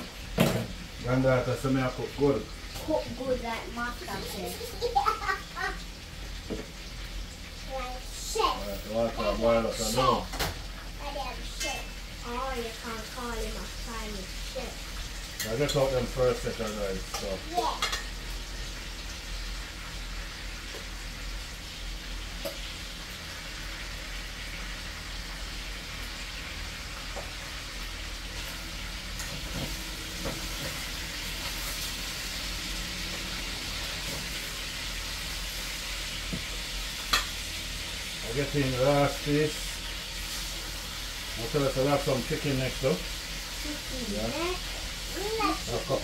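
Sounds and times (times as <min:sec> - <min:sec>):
chicken sizzling in a pan: 0:00.0 - 0:46.0.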